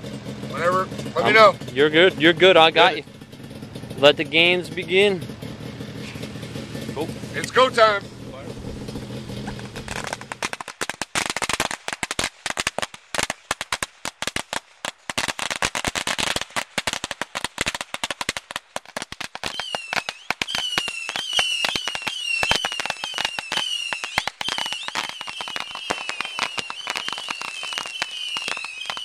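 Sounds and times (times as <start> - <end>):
firework crackling pops: 5.4 - 29.0.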